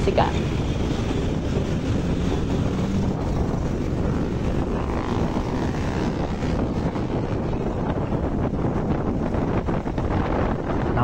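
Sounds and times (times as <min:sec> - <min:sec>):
vehicle driving drone: 0:00.0 - 0:11.0
wind buffeting microphone: 0:00.0 - 0:11.0.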